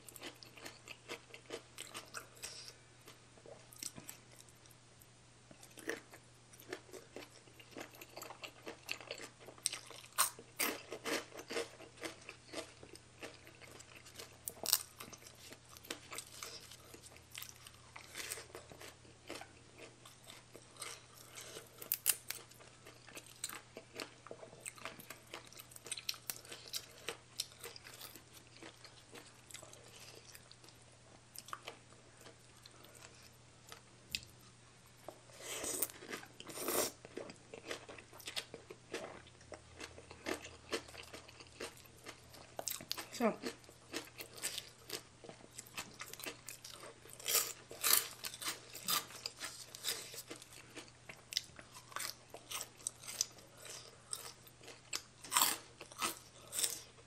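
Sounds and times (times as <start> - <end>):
person crunching food: 0.0 - 4.7, 5.6 - 34.3, 35.3 - 57.0.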